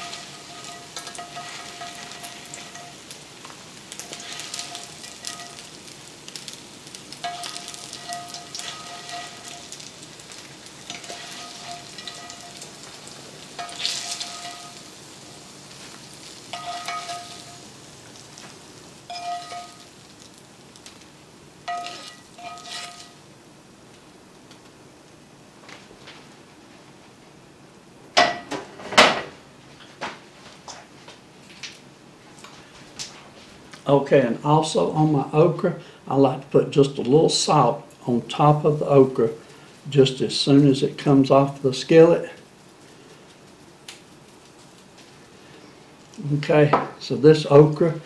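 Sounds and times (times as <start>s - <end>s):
frying in hot oil sizzling: 0.0s - 25.2s, 33.6s - 48.0s.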